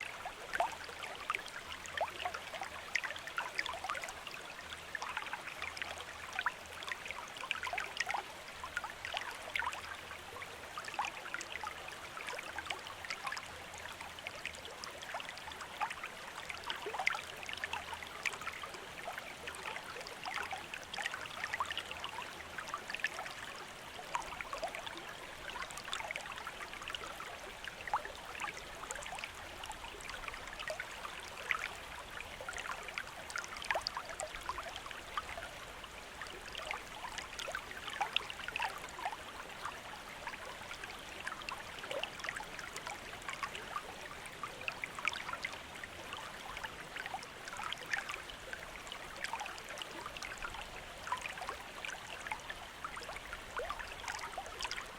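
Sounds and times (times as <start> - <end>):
stream babbling over rocks: 0.0 - 54.9.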